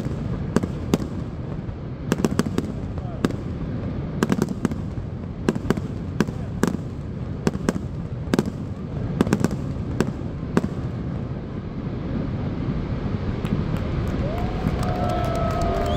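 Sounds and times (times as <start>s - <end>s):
fireworks bursting with bangs: 0.0s - 15.9s
steady low rumble: 0.0s - 15.9s.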